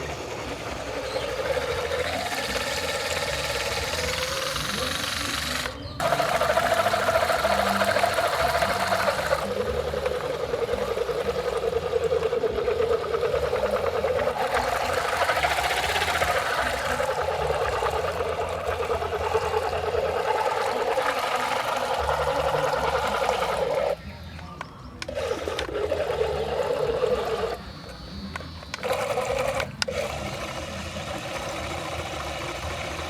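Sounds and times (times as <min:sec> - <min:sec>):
small electric motors whining: 0:00.0 - 0:33.0.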